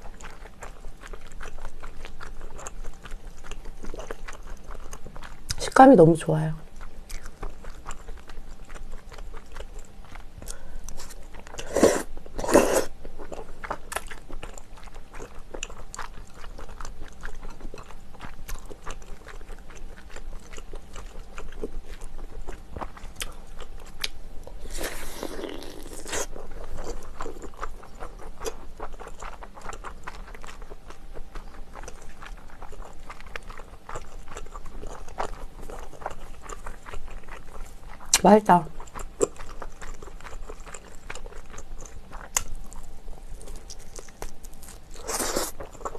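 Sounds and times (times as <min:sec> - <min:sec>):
person chewing and crunching: 0:00.0 - 0:05.6, 0:06.6 - 0:45.9.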